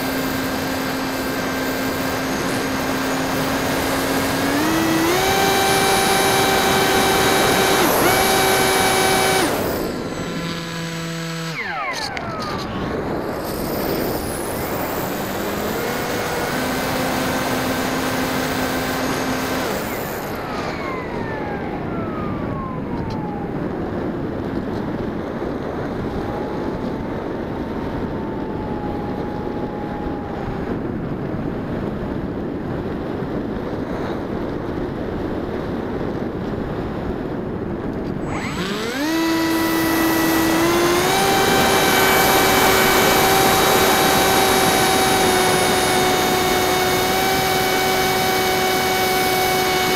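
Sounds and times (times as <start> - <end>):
electric motor whine: 0.0 - 31.8, 38.0 - 49.9.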